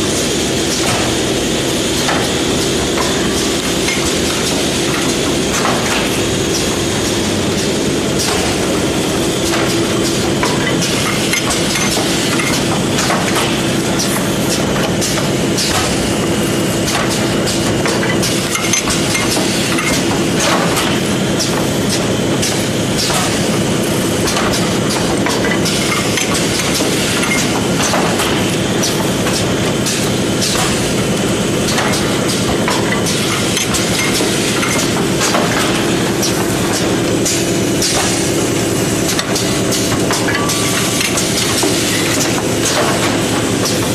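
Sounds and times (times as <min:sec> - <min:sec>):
machine humming: 0:00.0 - 0:43.9
machine parts clattering and clicking: 0:00.6 - 0:43.9.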